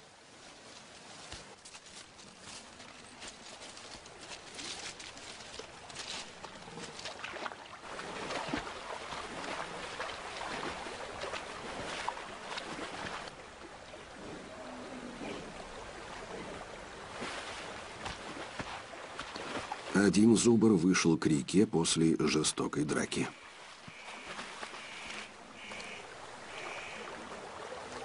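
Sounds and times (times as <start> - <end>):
animal wading through water: 0.0 - 21.0, 22.3 - 28.0.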